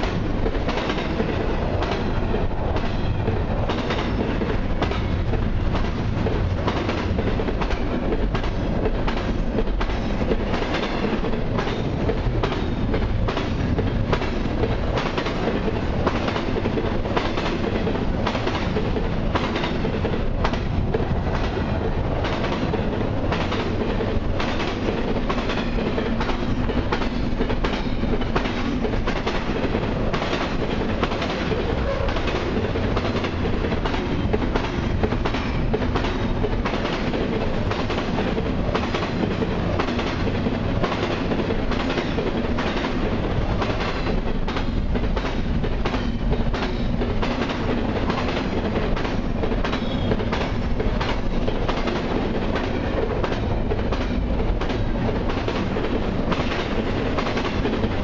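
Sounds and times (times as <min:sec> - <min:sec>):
train wheels rumbling on rails: 0:00.0 - 0:58.0
wheels clickety-clack on rail joints: 0:00.0 - 0:58.0.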